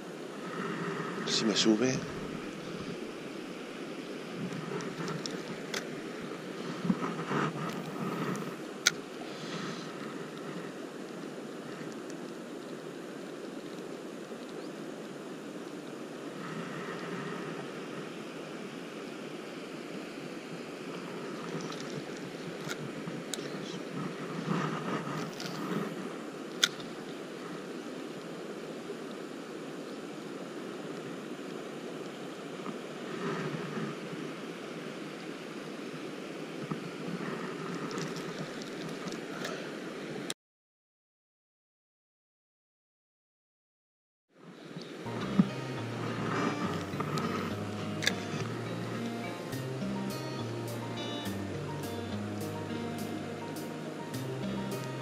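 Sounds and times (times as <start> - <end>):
river current rushing: 0.0 - 40.3, 44.6 - 55.0.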